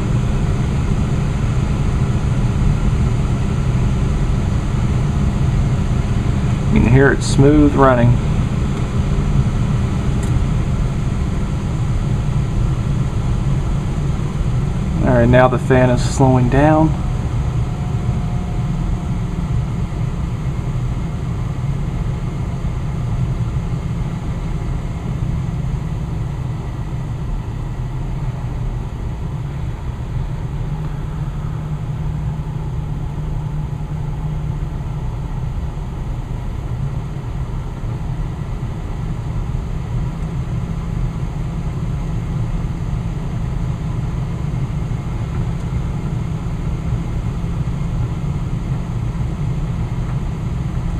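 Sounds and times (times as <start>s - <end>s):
furnace blower fan humming: 0.0s - 50.9s.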